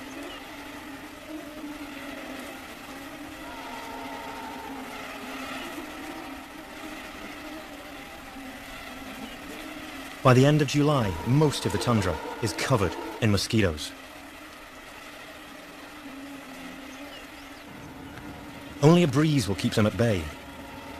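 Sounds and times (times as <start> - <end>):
mosquitoes buzzing: 0.0 - 20.9.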